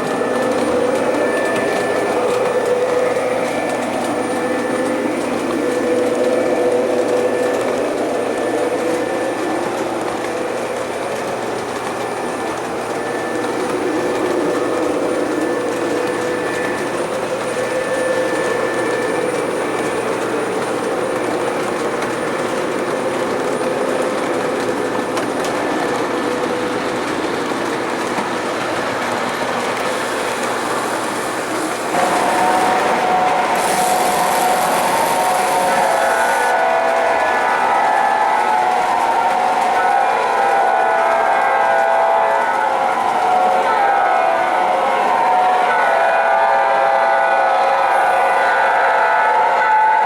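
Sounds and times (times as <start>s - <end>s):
model train running: 0.0s - 50.0s.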